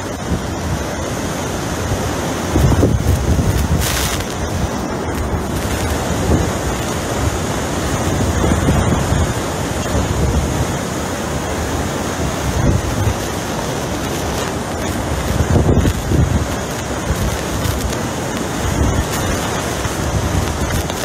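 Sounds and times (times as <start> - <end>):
hurricane wind and driving rain: 0.0 - 21.0
wind gusts battering microphone: 0.0 - 21.0.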